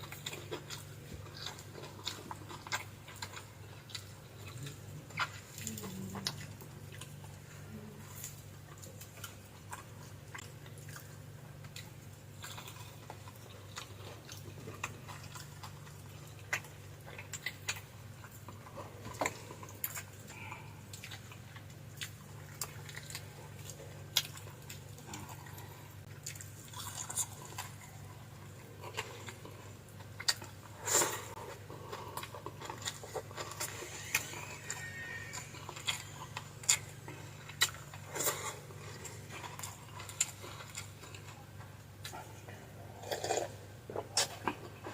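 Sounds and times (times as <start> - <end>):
chewing and biting fried fish: 0.0 - 44.9
steady low hum: 0.0 - 44.9.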